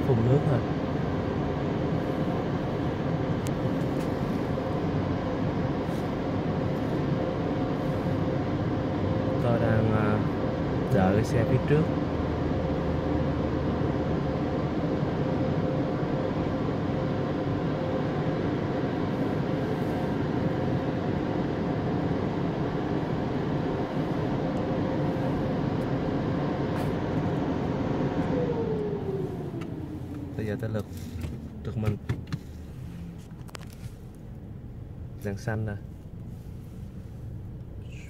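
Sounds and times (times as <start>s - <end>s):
car wash machine humming: 0.0s - 34.6s.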